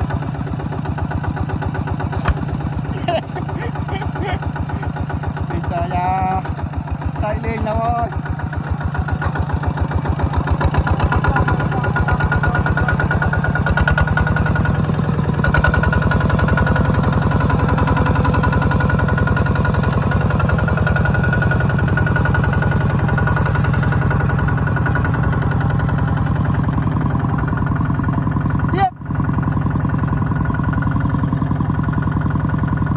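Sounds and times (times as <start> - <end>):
farm machine engine running: 0.0 - 32.9.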